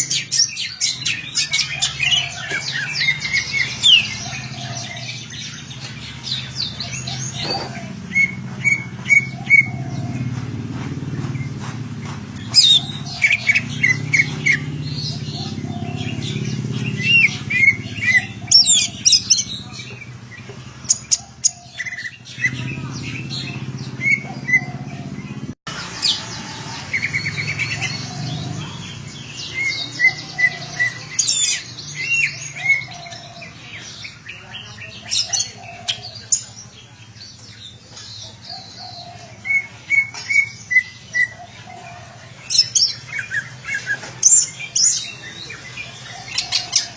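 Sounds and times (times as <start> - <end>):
bird singing: 0.0 - 46.9.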